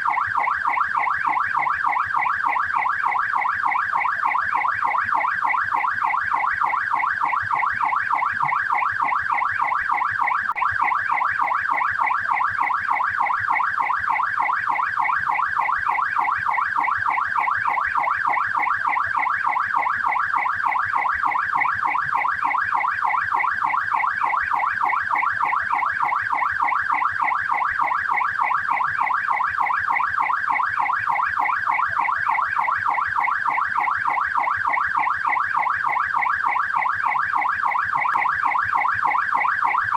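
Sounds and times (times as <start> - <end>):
police siren yelp: 0.0 - 39.9.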